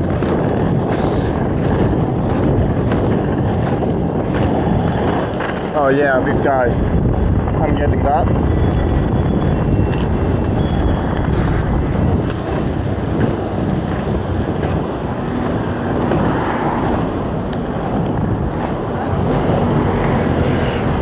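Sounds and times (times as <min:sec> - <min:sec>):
wind buffeting a microphone: 0:00.0 - 0:21.0.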